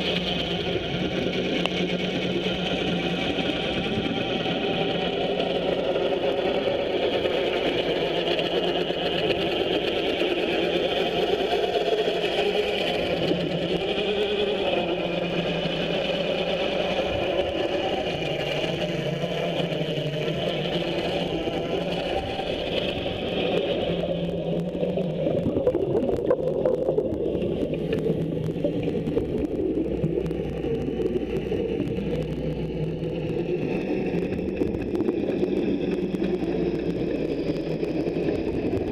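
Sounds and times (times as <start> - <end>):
underwater polishing tool droning: 0.0 - 38.9.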